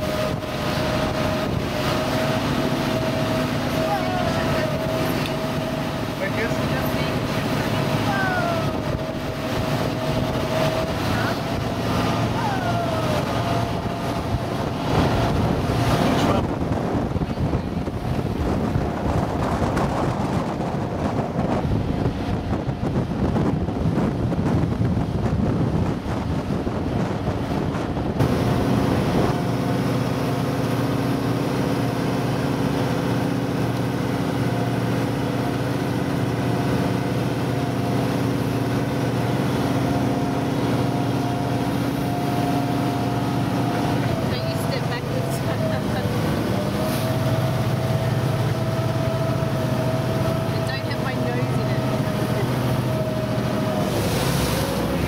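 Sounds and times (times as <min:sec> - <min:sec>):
motorboat engine drone: 0:00.0 - 0:55.0
wind and water rushing: 0:00.0 - 0:55.0.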